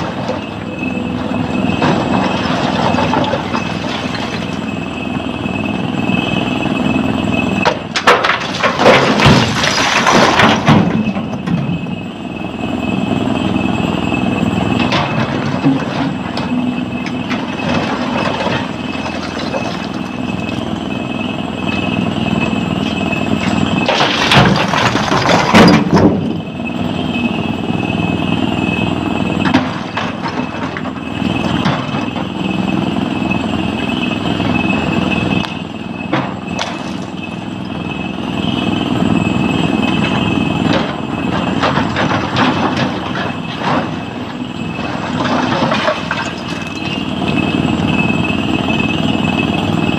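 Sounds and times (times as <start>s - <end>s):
high-pitched whine: 0.0s - 8.0s, 10.4s - 42.0s, 43.2s - 49.9s
excavator diesel engine: 0.0s - 49.9s.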